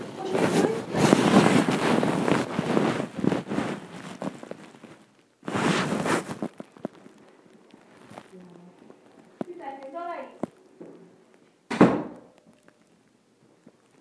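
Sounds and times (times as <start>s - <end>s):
rustling on the microphone: 0.0s - 11.5s.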